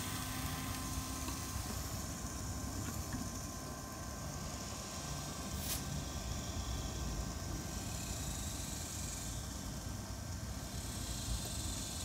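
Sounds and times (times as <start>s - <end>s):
grill fan whirring: 0.0s - 12.0s.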